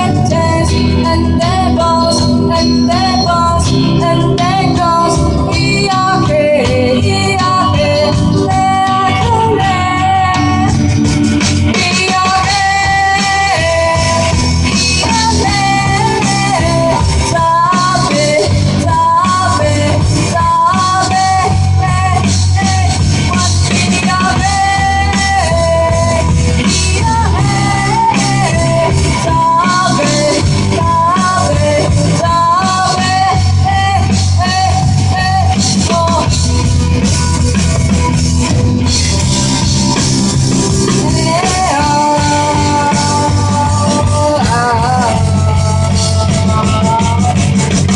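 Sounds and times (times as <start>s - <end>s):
rock band with singing: 0.0s - 47.9s.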